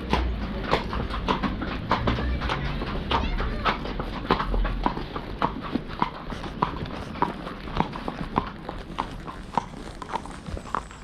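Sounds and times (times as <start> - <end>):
horse hooves on hard road: 0.0 - 11.0.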